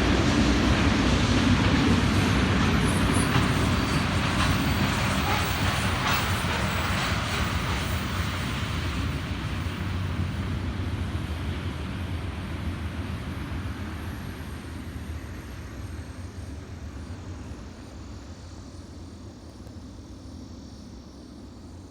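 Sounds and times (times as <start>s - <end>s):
freight train rumbling past: 0.0s - 21.8s.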